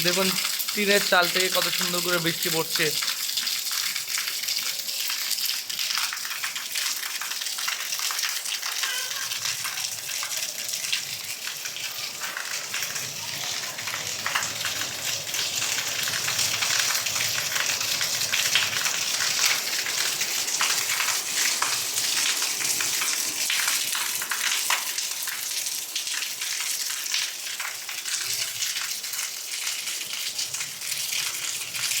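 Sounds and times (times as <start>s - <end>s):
heavy rain falling: 0.0s - 32.0s
rainwater pouring off tin roof: 0.0s - 32.0s.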